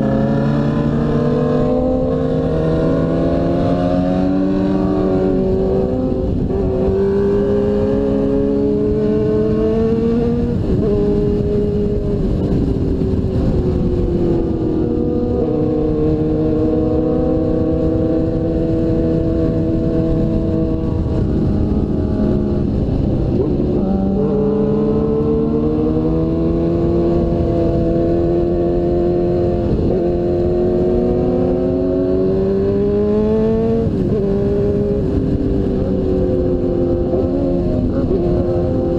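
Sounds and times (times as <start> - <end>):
motorcycle engine accelerating: 0.0 - 38.9
wind rushing: 0.0 - 38.9.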